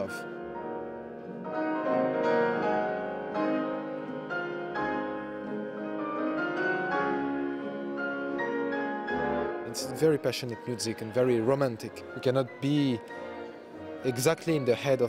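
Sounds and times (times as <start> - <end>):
grand piano playing classical: 0.0 - 15.0.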